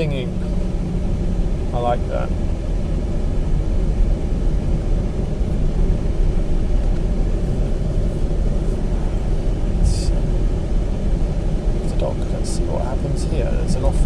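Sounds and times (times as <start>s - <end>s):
car rumble inside cabin: 0.0s - 14.0s.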